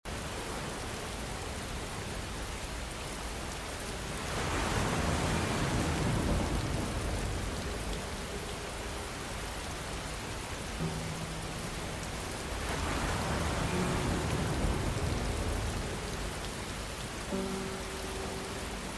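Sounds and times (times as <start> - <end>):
steady rain falling: 0.1 - 18.9.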